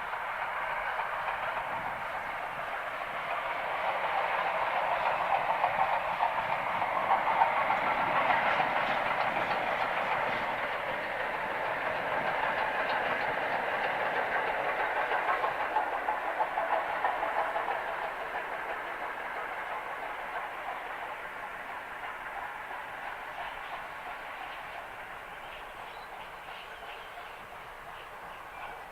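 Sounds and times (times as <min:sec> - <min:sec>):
steam train running past: 0:00.0 - 0:28.9.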